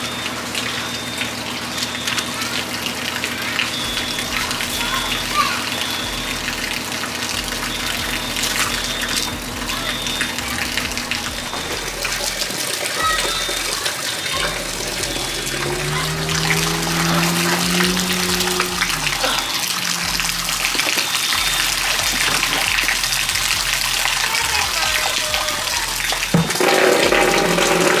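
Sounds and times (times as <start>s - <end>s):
water pouring from a pipe: 0.0s - 28.0s.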